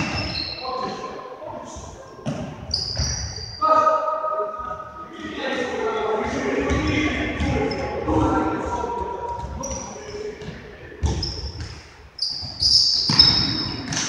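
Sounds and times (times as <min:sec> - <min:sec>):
shoes squeaking on hall floor: 0:00.0 - 0:05.1, 0:06.2 - 0:14.0
players calling out: 0:00.0 - 0:14.0.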